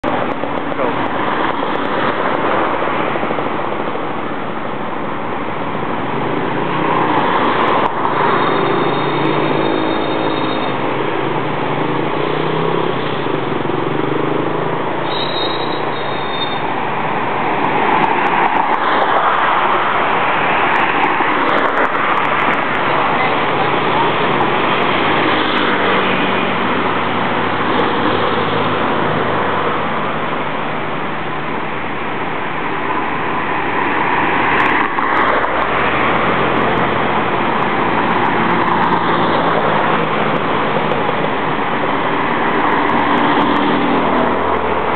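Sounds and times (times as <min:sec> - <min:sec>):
cars passing: 0:00.0 - 0:44.9.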